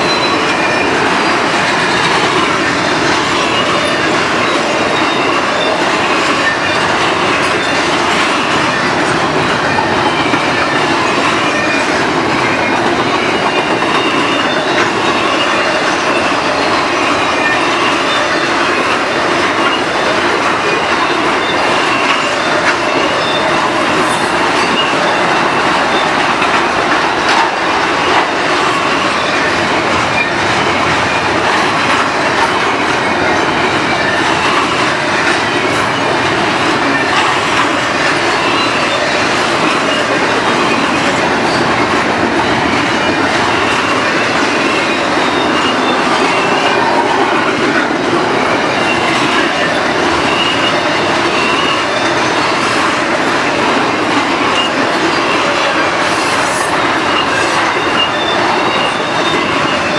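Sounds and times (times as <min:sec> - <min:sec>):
rail joint clicks: 0:00.0 - 0:59.9
steel wheels rumbling on rail: 0:00.0 - 0:59.9.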